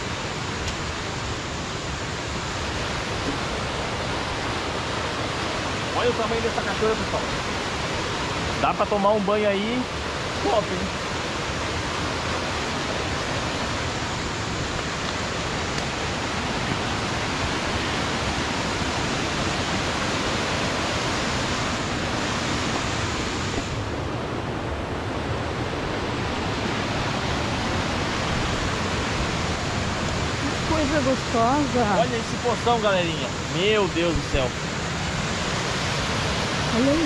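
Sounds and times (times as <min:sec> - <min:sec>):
waterfall rushing over rocks: 0:00.0 - 0:37.0.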